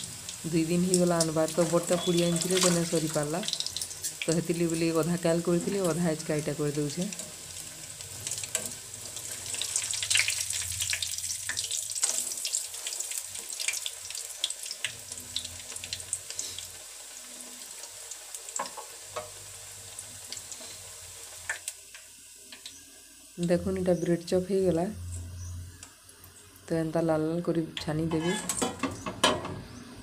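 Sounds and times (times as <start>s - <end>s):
food deep-frying in hot oil: 0.0s - 30.0s.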